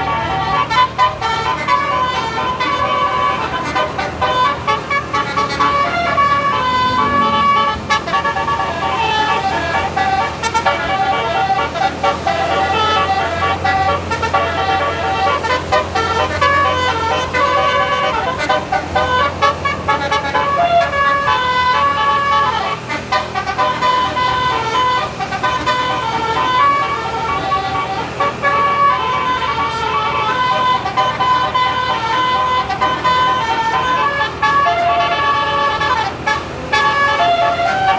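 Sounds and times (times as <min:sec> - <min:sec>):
multi-tone bus horn tune: 0:00.0 - 0:37.9.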